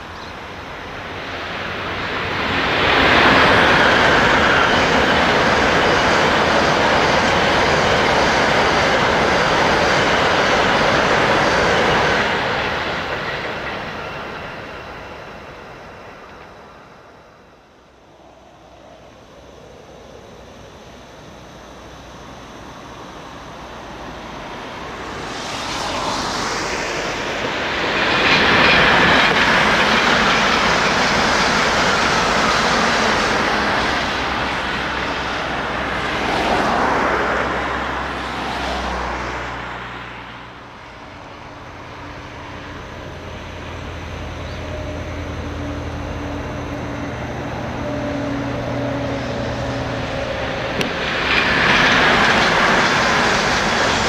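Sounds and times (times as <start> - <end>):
bullet trains passing at high speed: 0.0 - 54.0
low train hum: 0.0 - 54.0.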